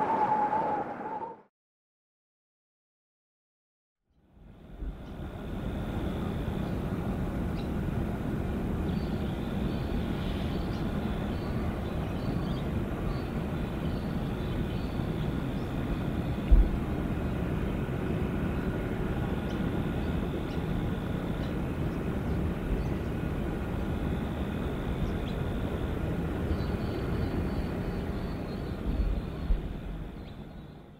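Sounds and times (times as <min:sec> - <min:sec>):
faint high whine: 0:04.3 - 0:30.9
distant jet engines rumbling: 0:04.4 - 0:30.9
wind buffeting microphone: 0:04.9 - 0:30.5.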